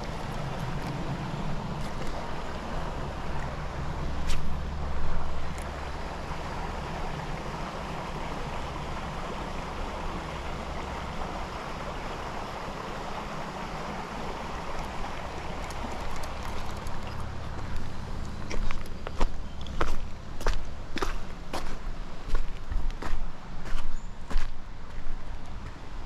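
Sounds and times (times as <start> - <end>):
creek water flowing: 0.0 - 26.0.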